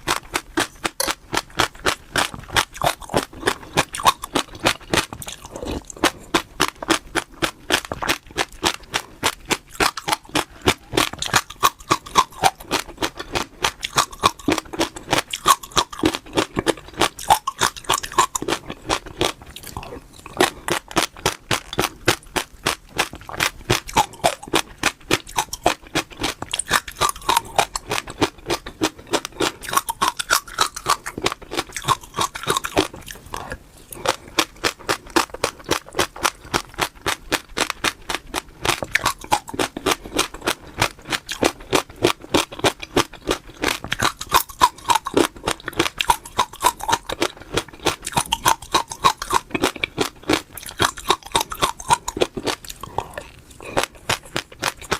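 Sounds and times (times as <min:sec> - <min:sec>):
soft mouth sounds: 0:00.0 - 0:54.9
seeds crunched between teeth: 0:00.1 - 0:54.9.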